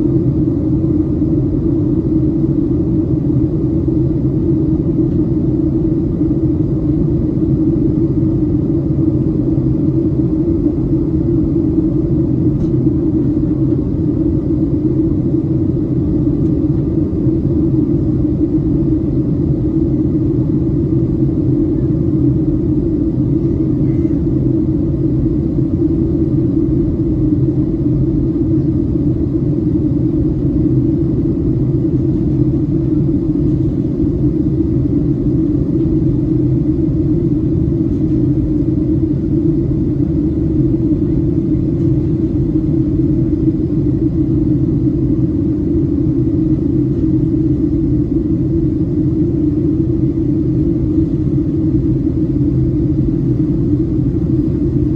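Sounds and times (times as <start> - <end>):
airplane cabin drone: 0.0 - 54.9.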